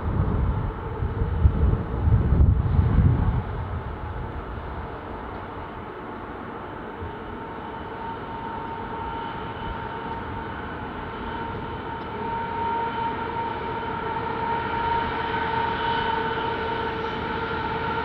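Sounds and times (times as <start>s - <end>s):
locomotive high-pitched whine: 0.0s - 18.0s.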